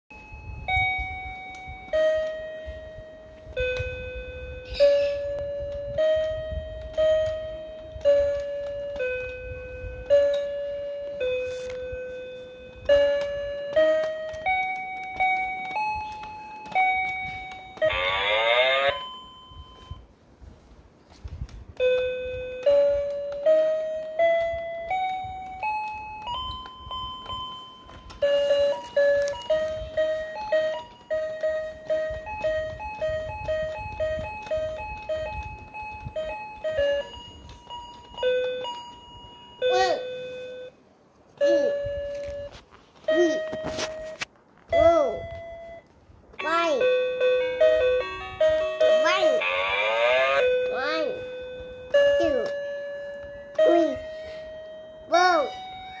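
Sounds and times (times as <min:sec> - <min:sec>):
toy piano beep notes: 0:00.1 - 0:20.0, 0:21.8 - 0:40.8, 0:41.4 - 0:56.0.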